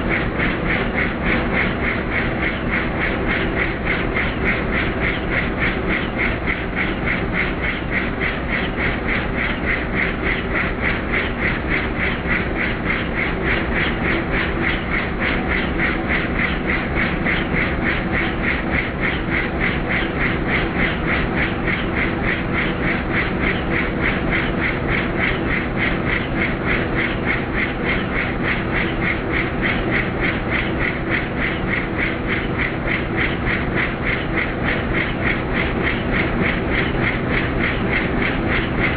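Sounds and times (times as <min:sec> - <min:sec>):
helicopter engine drone: 0:00.0 - 0:38.9
helicopter rotor blades beating: 0:00.0 - 0:38.9.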